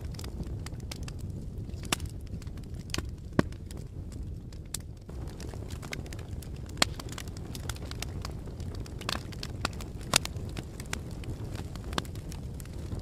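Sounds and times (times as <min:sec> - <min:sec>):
fire crackling: 0:00.0 - 0:13.0
loud fire pops: 0:00.0 - 0:13.0.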